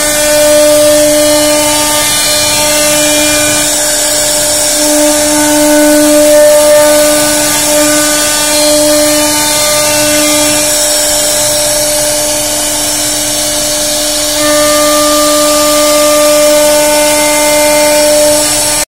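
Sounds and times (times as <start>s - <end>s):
hiss of bit cutting wood: 0.0s - 18.8s
router spindle whining: 0.0s - 18.9s.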